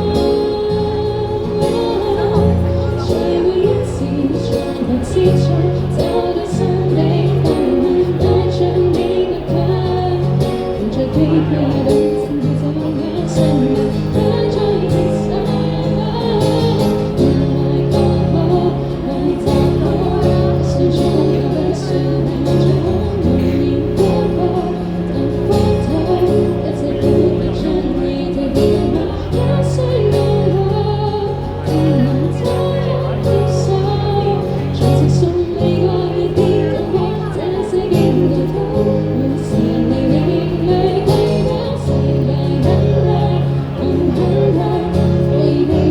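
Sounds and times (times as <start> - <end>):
person singing: 0.0 - 45.9.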